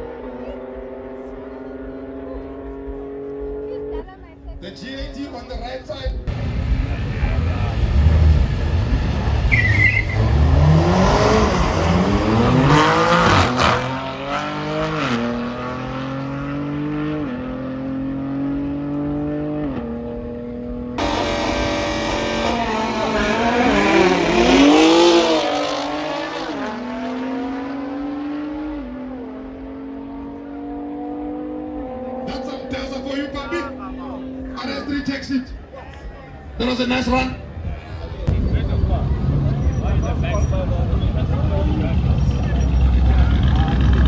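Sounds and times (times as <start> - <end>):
car engine accelerating at full throttle: 0.0 - 4.0, 6.3 - 34.9, 38.2 - 44.0.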